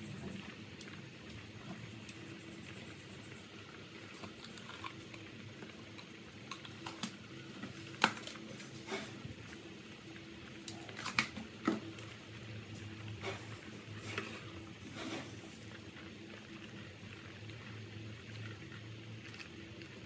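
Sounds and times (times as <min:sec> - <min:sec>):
soup boiling and bubbling: 0:00.0 - 0:20.0.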